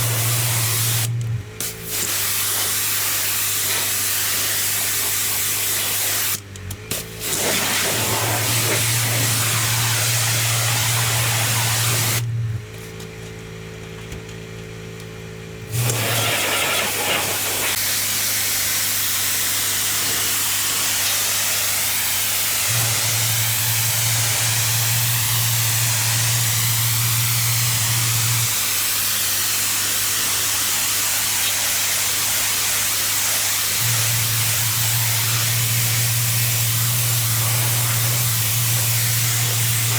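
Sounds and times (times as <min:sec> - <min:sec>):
pressure washer water jet hissing: 0:00.0 - 0:12.3, 0:15.7 - 0:39.9.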